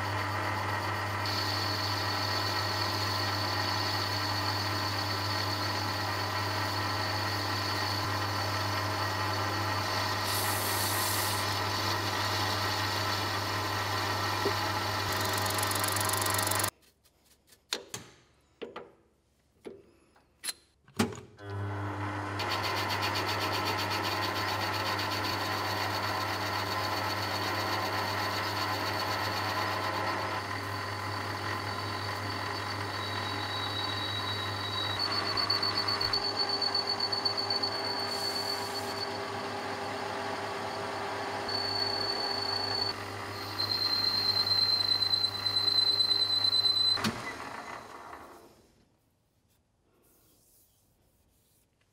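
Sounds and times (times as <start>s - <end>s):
high whine of metal cutting: 0.0s - 16.7s, 22.4s - 47.7s
metal lathe motor hum: 0.0s - 16.7s, 21.5s - 48.4s.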